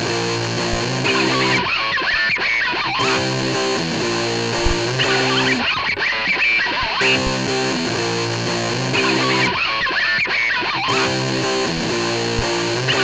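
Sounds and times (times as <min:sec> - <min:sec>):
distorted electric guitar: 0:00.0 - 0:13.0.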